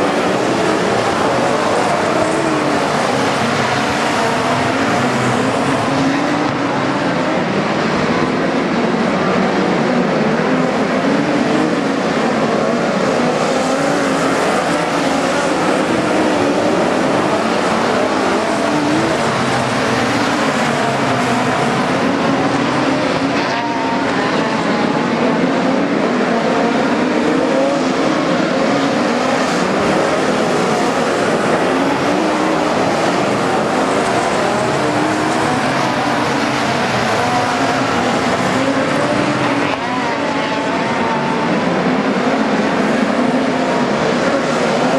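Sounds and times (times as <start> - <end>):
race car engines at speed: 0.0 - 44.9.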